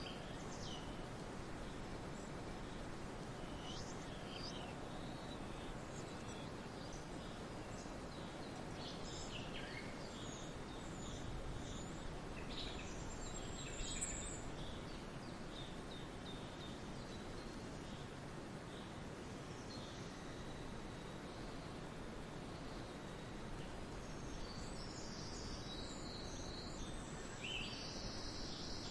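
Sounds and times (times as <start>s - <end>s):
background hiss: 0.0s - 28.9s.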